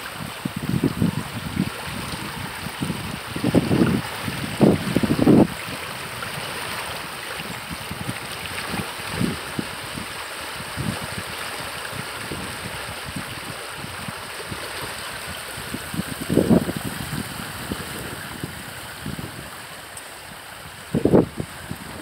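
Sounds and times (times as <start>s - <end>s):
creek rushing: 0.0s - 22.0s
wind buffeting microphone: 0.0s - 22.0s.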